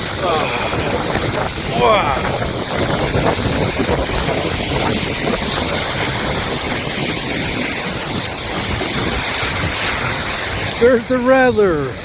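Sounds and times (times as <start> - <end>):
person sliding down snow: 0.0 - 10.8
wind on microphone: 0.0 - 12.0.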